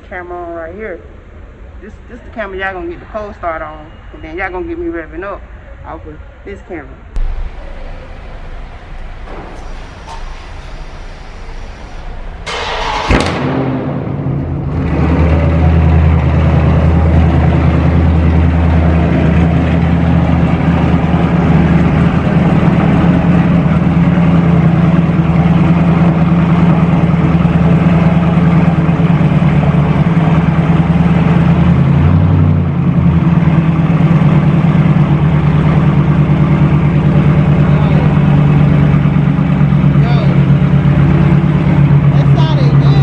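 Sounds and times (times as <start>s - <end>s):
car engine starting and idling: 7.2s - 43.0s.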